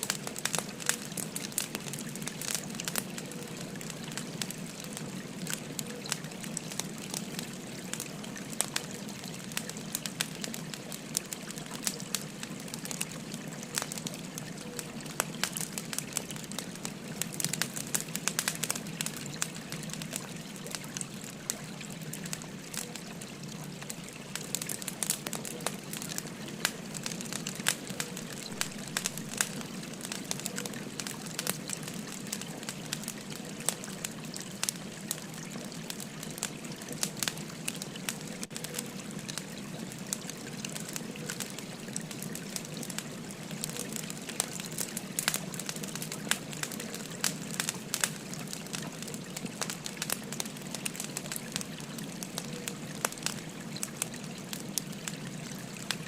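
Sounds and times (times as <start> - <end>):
firewood crackling and popping: 0.0 - 56.0
stream flowing: 0.0 - 56.0.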